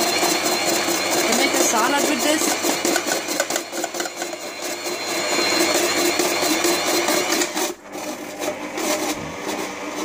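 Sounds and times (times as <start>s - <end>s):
food processor motor whining: 0.0s - 10.0s.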